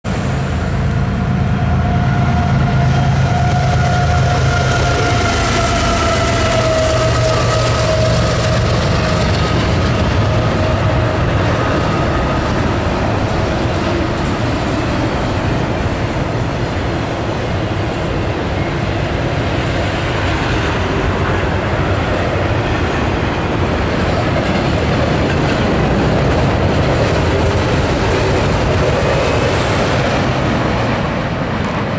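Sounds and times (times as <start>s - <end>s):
freight train wheels rumbling: 0.0s - 31.9s
locomotive high tone: 0.1s - 31.9s.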